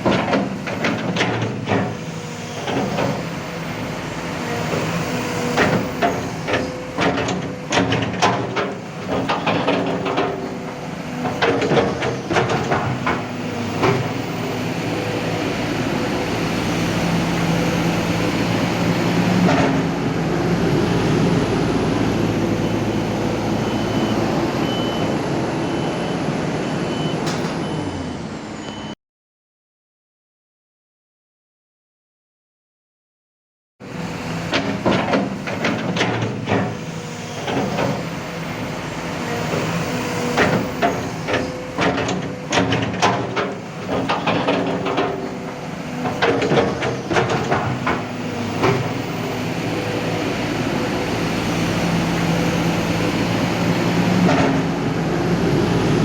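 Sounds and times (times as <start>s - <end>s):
excavator diesel engine running: 0.0s - 29.0s, 33.8s - 56.0s.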